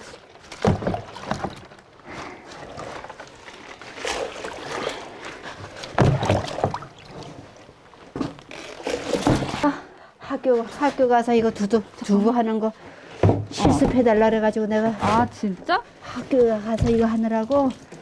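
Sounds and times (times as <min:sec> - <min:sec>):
liquid sloshing and splashing: 0:00.0 - 0:09.7, 0:12.9 - 0:18.0.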